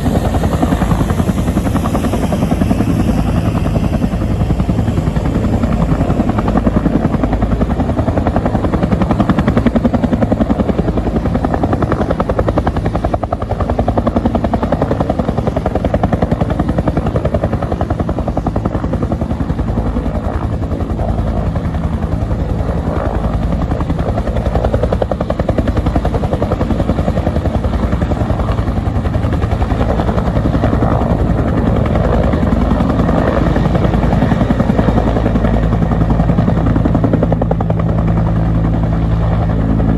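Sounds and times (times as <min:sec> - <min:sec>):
helicopter engine drone: 0:00.0 - 0:39.9
helicopter rotor blades beating: 0:00.0 - 0:39.9.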